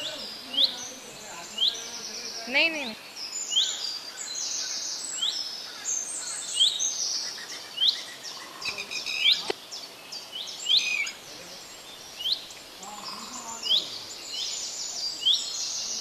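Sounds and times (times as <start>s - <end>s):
bird chirps chattering: 0.0s - 9.6s, 10.6s - 16.0s
lapwing alarm calls: 0.0s - 9.9s, 10.6s - 16.0s.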